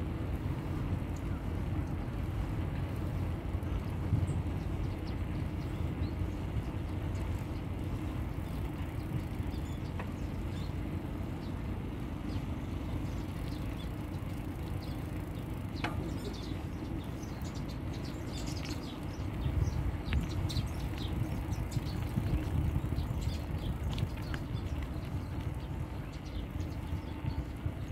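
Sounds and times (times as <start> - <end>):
bicycle riding rumble: 0.0 - 27.9.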